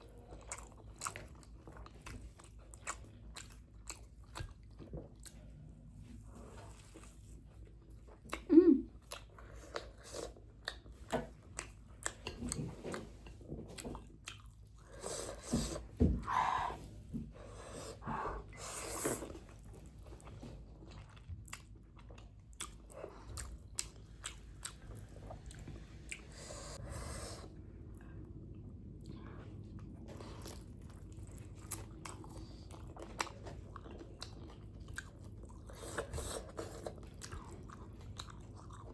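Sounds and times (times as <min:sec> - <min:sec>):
person chewing noodles: 0:00.0 - 0:38.9.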